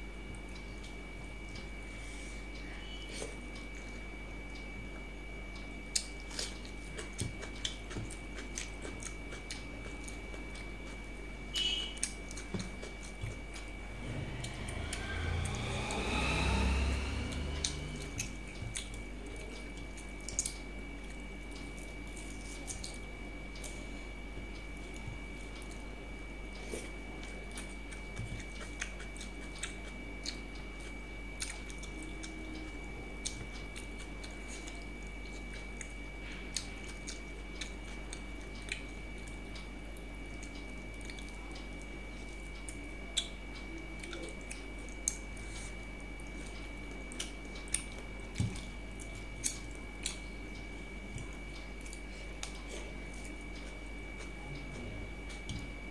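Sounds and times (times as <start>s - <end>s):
steady low hum: 0.0s - 55.9s
person chewing: 5.6s - 55.9s.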